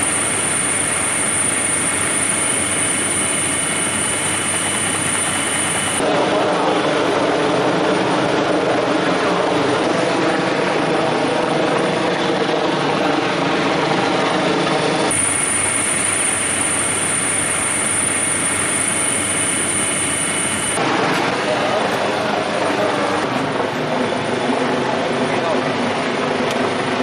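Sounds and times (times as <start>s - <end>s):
helicopter engine and rotor noise: 0.0s - 27.0s
high whine: 0.0s - 27.0s.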